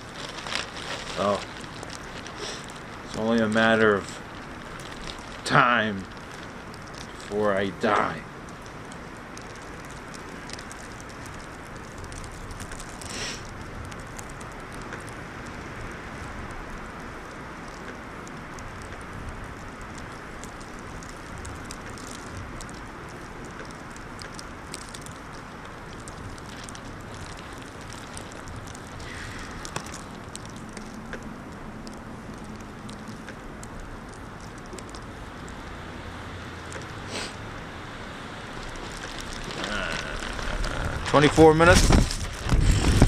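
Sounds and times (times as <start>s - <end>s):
light crackles: 0.0s - 43.0s
snowstorm wind: 0.0s - 43.0s.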